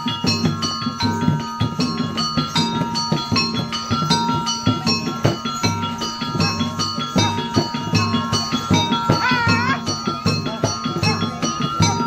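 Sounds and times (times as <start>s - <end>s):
low drum beats: 0.0s - 12.0s
ringing mallet instruments melody: 0.0s - 12.0s.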